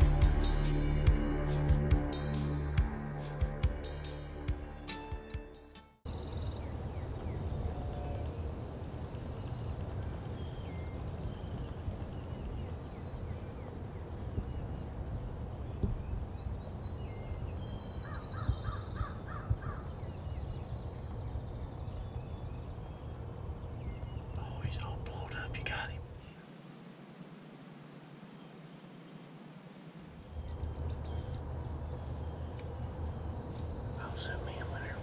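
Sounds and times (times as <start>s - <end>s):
songbird notes: 6.1s - 35.0s
steady low rumble: 6.2s - 35.0s.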